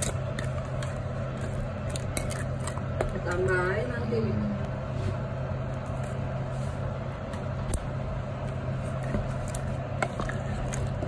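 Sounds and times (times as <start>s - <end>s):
faint kitchen noise: 0.0s - 11.0s
steady low hum: 0.0s - 11.0s.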